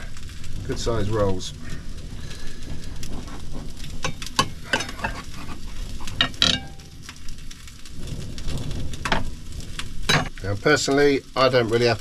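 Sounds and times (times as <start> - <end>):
sausages sizzling in a pan: 0.0 - 12.0.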